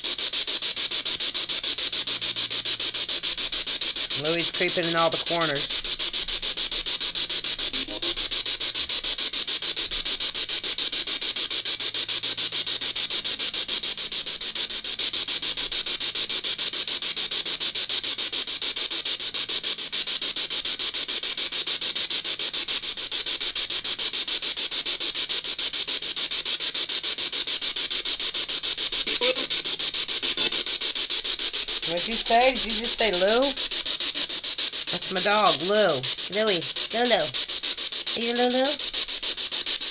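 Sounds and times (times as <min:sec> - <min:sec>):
pulsing radio static hiss: 0:00.0 - 0:39.9.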